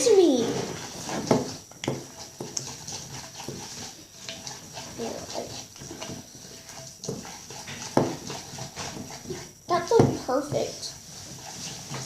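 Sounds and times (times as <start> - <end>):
slime squelching: 0.0 - 12.0.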